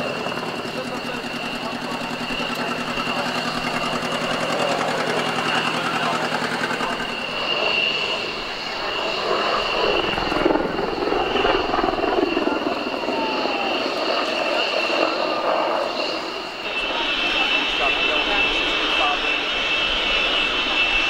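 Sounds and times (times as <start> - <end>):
helicopter rotor beating: 0.0 - 21.0
high turbine whine: 0.0 - 21.0.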